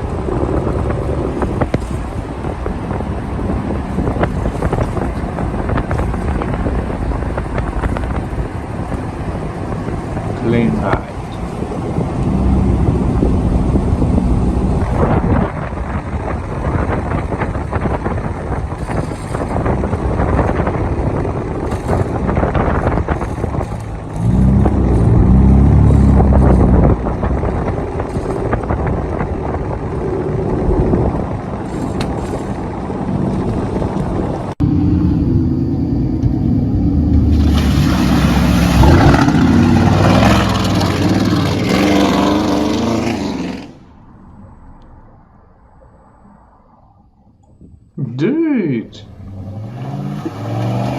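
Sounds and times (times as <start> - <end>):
truck engines revving: 0.0 - 44.9, 48.0 - 50.9.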